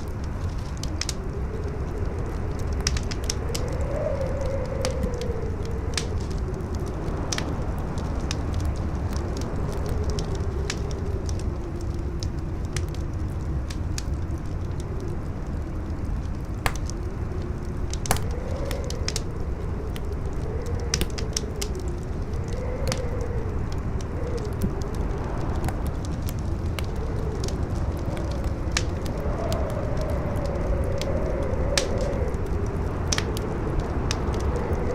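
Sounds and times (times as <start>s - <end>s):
campfire crackling: 0.0s - 34.9s
wind howling: 0.0s - 34.9s.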